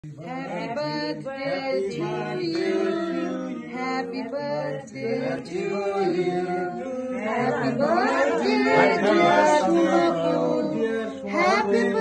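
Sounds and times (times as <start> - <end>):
group singing unaccompanied: 0.0 - 12.0.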